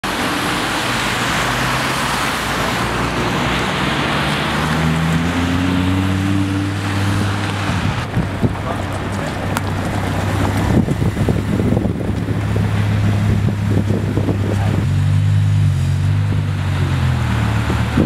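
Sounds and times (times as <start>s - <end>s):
car engine hum: 0.0s - 18.0s
tyres hissing on wet road: 0.0s - 18.0s.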